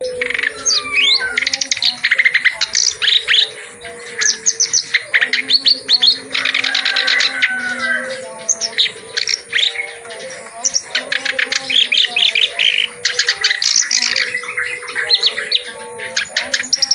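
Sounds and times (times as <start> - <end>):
reed warbler chattering song: 0.0 - 16.9.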